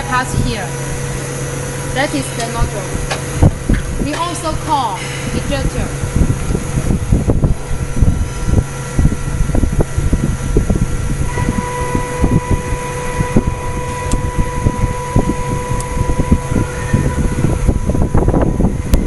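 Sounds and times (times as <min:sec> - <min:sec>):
low machine rumble: 0:00.0 - 0:19.0
thin steady whine: 0:00.0 - 0:19.0.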